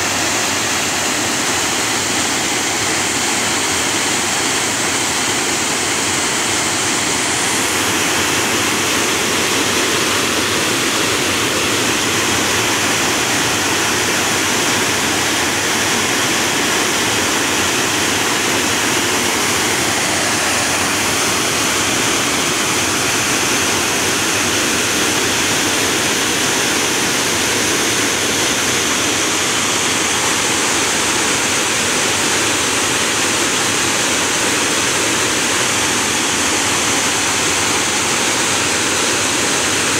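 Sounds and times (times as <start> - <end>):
water rushing over dam: 0.0 - 39.9.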